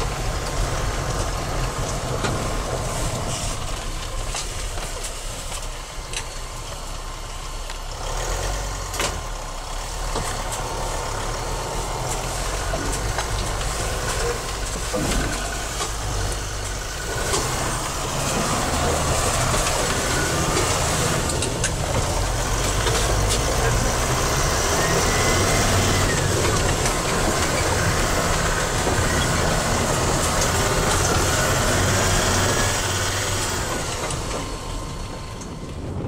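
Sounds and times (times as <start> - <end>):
car engine driving over snow: 0.0 - 36.0.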